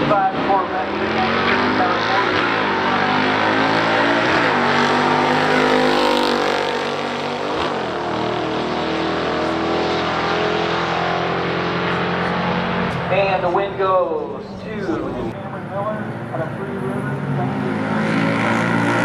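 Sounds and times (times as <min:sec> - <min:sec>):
car engines at full throttle: 0:00.0 - 0:19.0.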